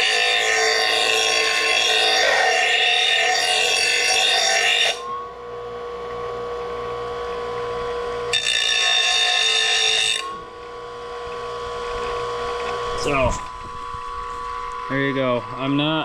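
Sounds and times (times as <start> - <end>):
electric grinder motor whine: 0.0 - 16.0.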